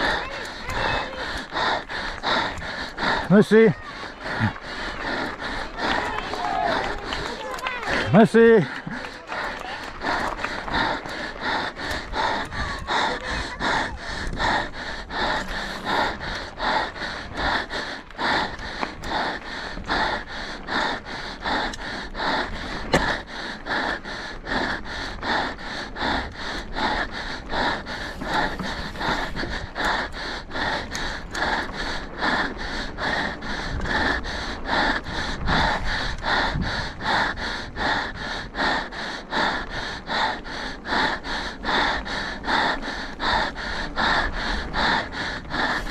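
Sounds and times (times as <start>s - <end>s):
heavy rapid panting: 0.0s - 45.9s.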